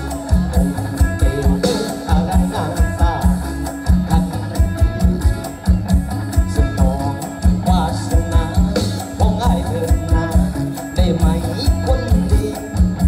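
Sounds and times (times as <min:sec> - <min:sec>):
live band through loudspeakers: 0:00.0 - 0:13.0
person singing: 0:00.0 - 0:13.0.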